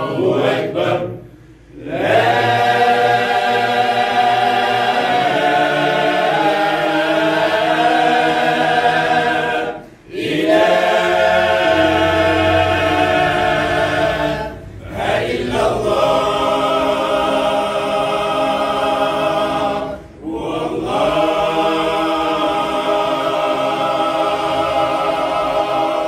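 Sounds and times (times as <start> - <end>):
group of voices chanting: 0.0 - 26.0.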